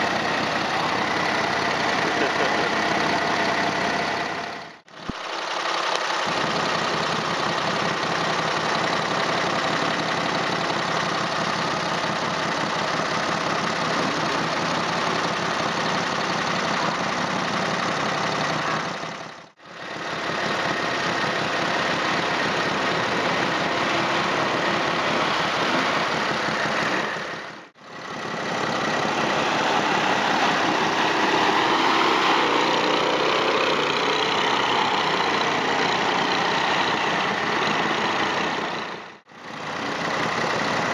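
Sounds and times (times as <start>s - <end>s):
atv engines running: 0.0s - 40.9s.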